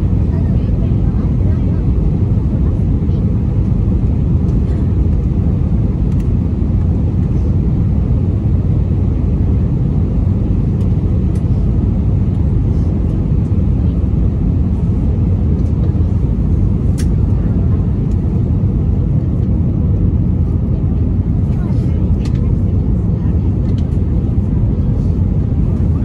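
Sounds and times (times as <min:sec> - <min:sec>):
aircraft cabin engine rumble: 0:00.0 - 0:26.0.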